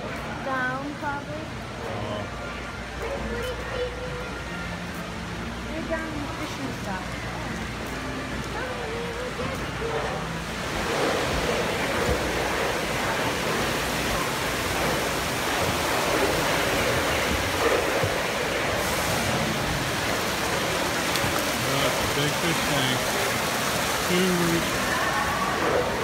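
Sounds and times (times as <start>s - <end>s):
indoor waterfall splashing: 0.0s - 26.0s.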